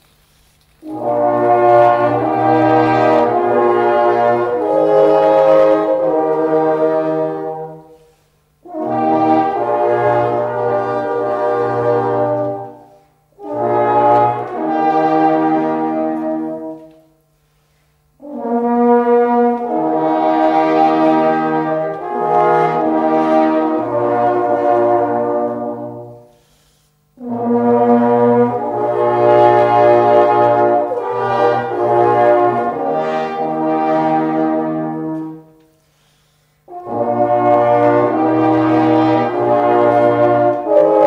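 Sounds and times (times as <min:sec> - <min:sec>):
brass horns playing chords: 0:00.3 - 0:41.0.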